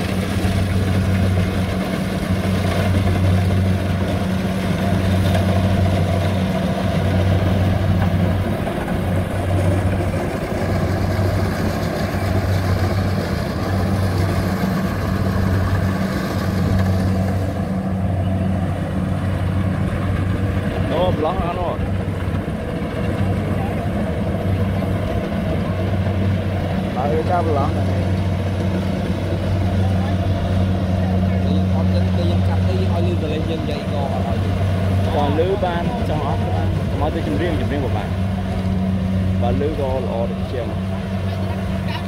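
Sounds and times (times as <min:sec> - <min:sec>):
harvester engine humming: 0:00.0 - 0:42.0.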